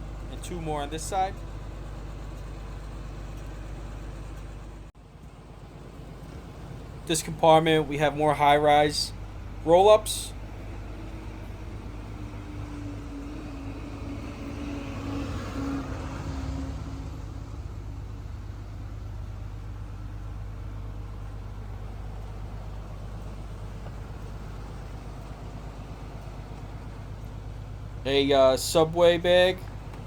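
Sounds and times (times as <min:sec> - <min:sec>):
vehicle engine idling: 0:00.0 - 0:30.0
vehicle noise: 0:00.0 - 0:30.0.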